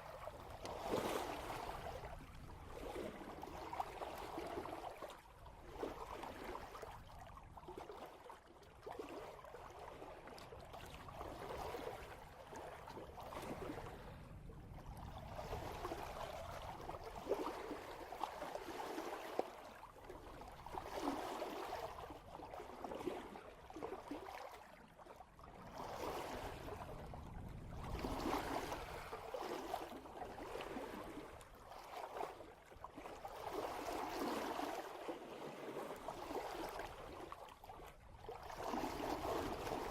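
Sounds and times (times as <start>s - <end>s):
water sloshing along boat hull: 0.0s - 39.9s.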